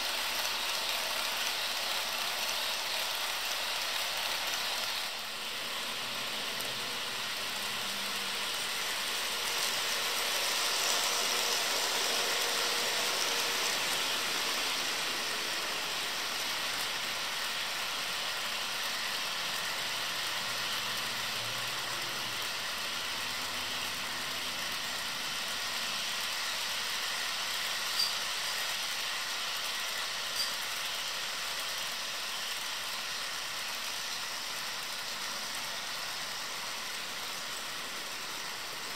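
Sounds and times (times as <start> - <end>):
model train wheels rolling on rail: 0.0 - 38.9.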